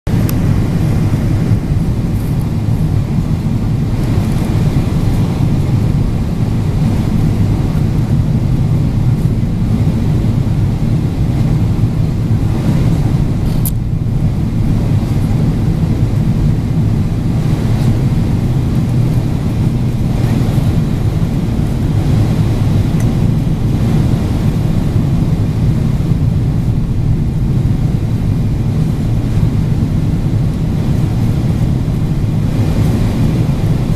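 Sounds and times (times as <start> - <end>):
jet airliner cabin drone: 0.1 - 33.9.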